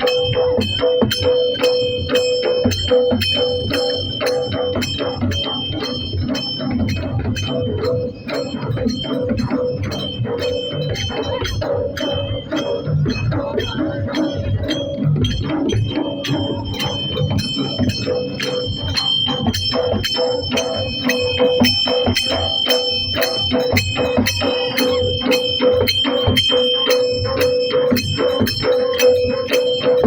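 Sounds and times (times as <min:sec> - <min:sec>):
drumbeat: 0:00.0 - 0:30.0
held ringing tone: 0:00.0 - 0:30.0
jingling metal percussion: 0:00.0 - 0:30.0.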